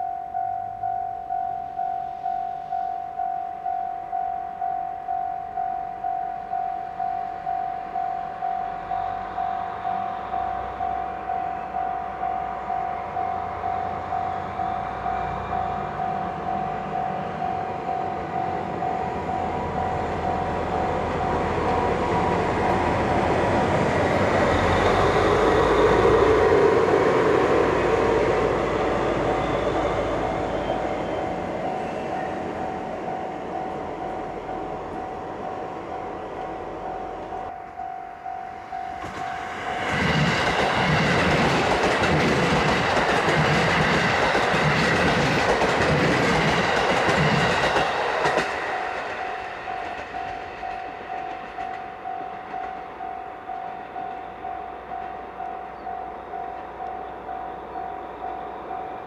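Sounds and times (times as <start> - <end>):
train rumble: 6.4 - 59.0.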